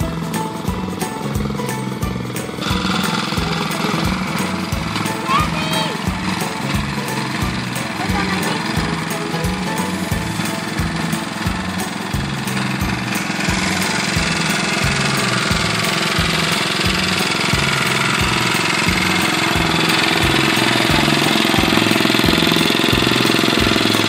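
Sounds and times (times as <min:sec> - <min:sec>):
small engine thumping: 0:00.0 - 0:24.0.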